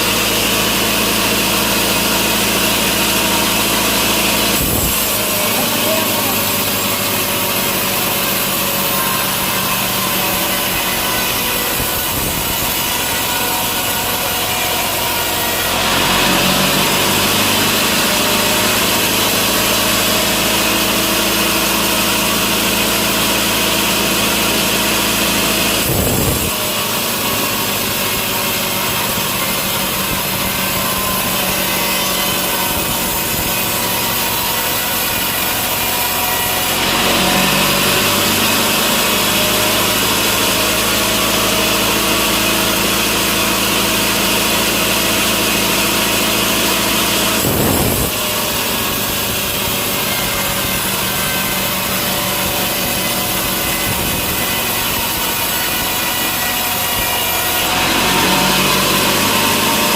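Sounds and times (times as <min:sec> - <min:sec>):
saw cutting through log: 0:00.0 - 0:59.9
sawmill machine hum: 0:00.0 - 0:59.9.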